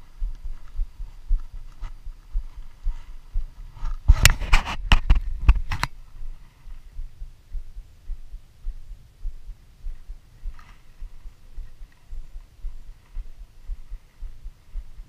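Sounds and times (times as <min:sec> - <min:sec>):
low thumping: 0:00.0 - 0:04.2, 0:05.0 - 0:15.0.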